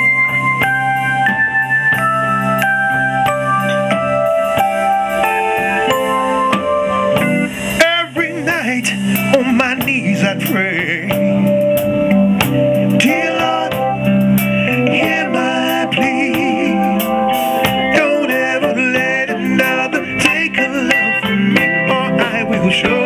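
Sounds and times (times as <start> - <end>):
bending lead line with vibrato: 0.0 - 23.0
soul band playing ballad: 0.0 - 23.0
sustained keyboard chords: 0.0 - 23.0.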